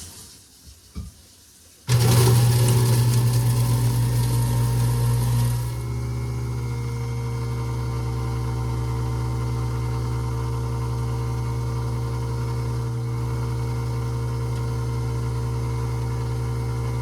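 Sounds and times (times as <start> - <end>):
garbage disposal motor humming: 1.9 - 17.0.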